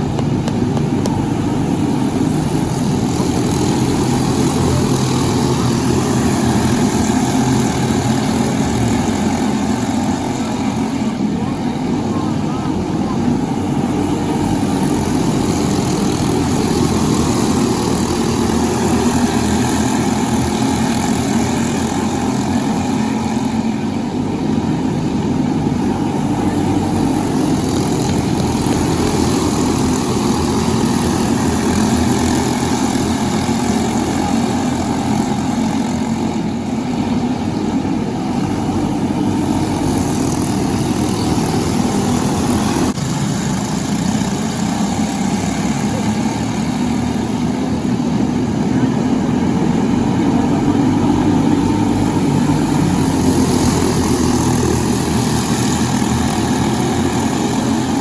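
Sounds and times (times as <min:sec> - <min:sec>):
kart engines running: 0:00.0 - 0:58.0.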